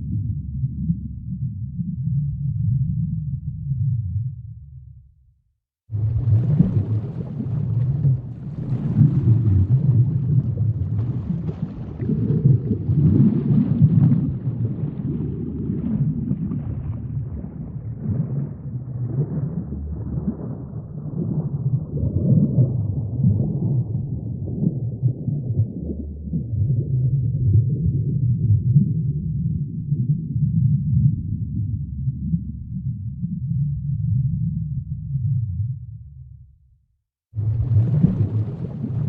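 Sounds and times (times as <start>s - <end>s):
low continuous rumbling: 0.0s - 5.2s, 5.9s - 13.2s, 13.8s - 36.7s, 37.4s - 39.0s.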